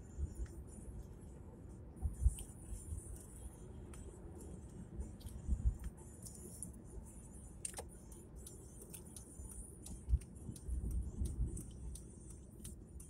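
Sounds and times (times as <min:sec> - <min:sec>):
road and engine rumble: 0:00.0 - 0:13.0
light ticks and rattles: 0:02.0 - 0:13.0.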